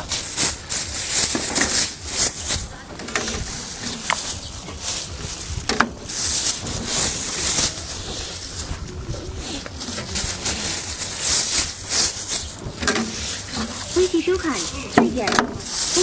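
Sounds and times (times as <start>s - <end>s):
busy street market background: 0.0s - 16.0s
hissy rustling: 0.0s - 16.0s.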